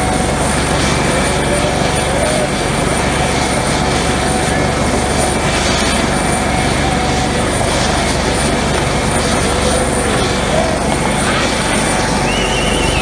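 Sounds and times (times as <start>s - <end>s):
helicopter rotor turning: 0.0s - 13.0s
high engine whine: 0.0s - 13.0s.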